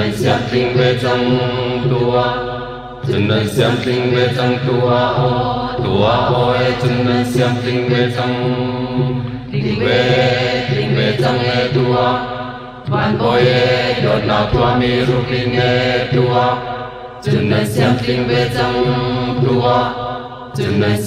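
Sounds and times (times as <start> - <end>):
voices singing chant-like notes: 0.0 - 21.0.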